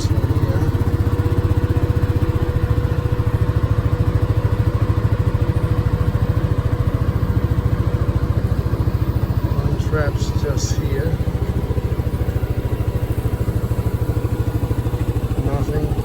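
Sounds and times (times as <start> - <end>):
thin steady whine: 0.0 - 16.0
vehicle engine running: 0.0 - 16.0.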